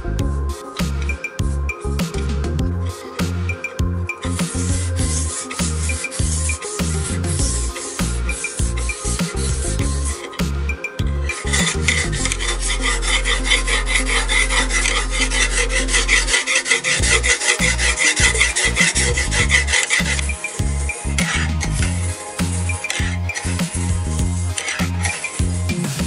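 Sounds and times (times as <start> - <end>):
background music: 0.0 - 26.0
block scraping along knife edge: 2.9 - 25.8.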